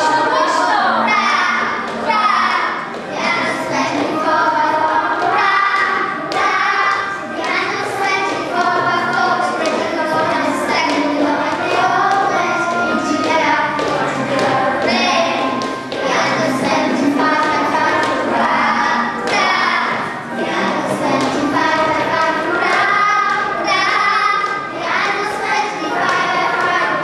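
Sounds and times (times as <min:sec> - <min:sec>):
children singing together: 0:00.0 - 0:27.0.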